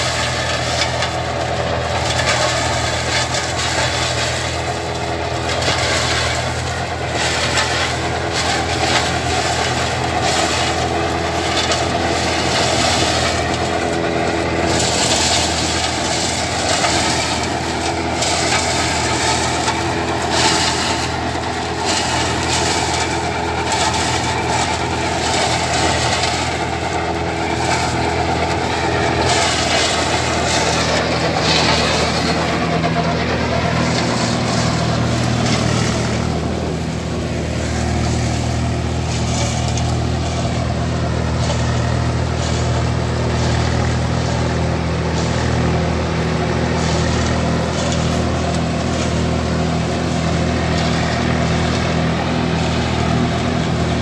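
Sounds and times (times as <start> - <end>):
shredder chopping plant stalks: 0.0 - 54.0
tractor diesel engine running: 0.0 - 54.0.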